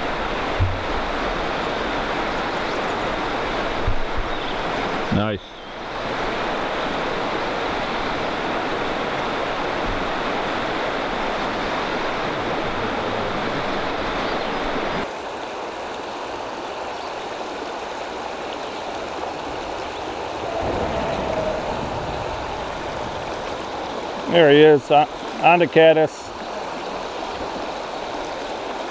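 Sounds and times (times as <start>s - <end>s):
river water rushing over stones: 0.0s - 28.9s.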